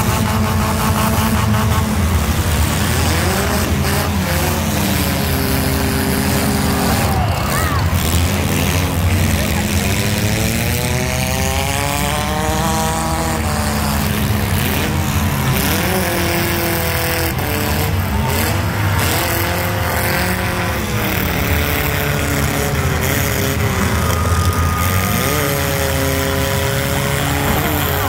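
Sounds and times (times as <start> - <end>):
car engines revving hard: 0.0 - 28.0.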